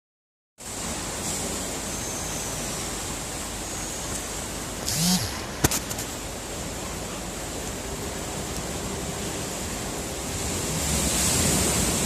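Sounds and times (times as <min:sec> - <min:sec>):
surf washing in a sea cave: 0:00.6 - 0:12.0.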